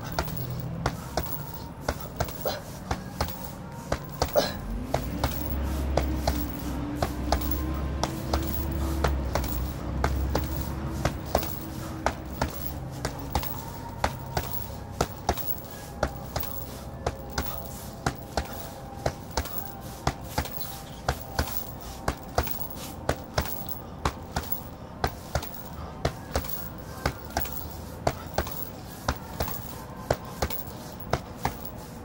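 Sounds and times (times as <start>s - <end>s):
punches thudding on punching bag: 0.0s - 31.9s.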